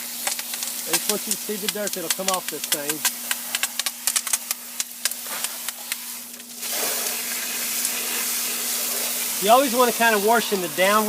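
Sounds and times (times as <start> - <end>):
hose spraying water on metal coil: 0.0 - 11.0.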